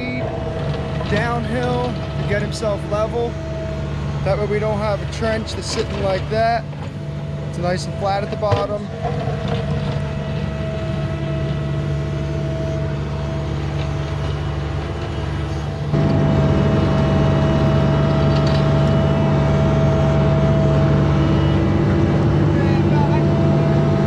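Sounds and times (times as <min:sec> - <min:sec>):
diesel engine humming and whining: 0:00.0 - 0:24.0.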